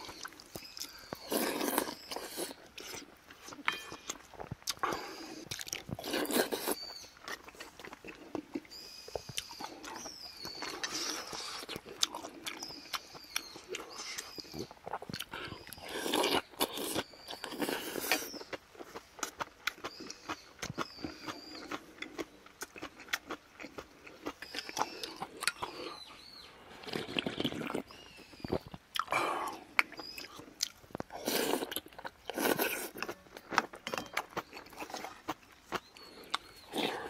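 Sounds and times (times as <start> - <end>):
chewing and crunching: 0.0 - 37.0.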